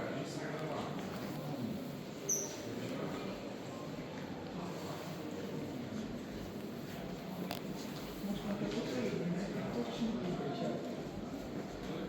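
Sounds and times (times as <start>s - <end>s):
murmur of distant voices: 0.0s - 12.0s.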